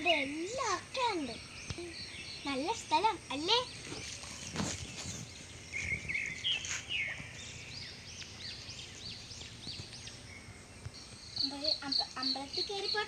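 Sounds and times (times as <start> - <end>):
birds chirping: 0.0 - 13.0
faint outdoor background noise: 0.0 - 13.0.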